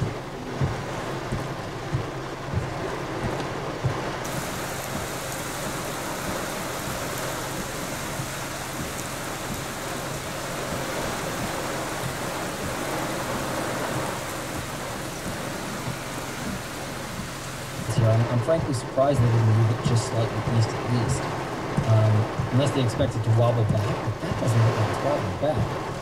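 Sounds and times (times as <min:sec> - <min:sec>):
heavy rain hiss: 0:00.0 - 0:26.0.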